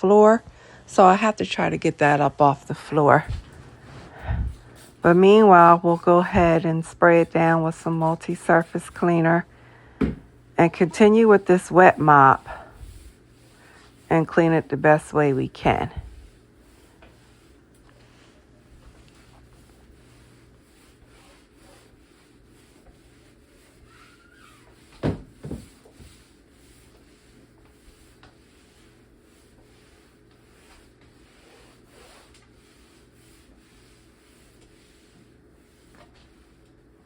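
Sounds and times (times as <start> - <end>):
wet mop rubbing on floor: 2.1 - 9.6, 10.2 - 37.0.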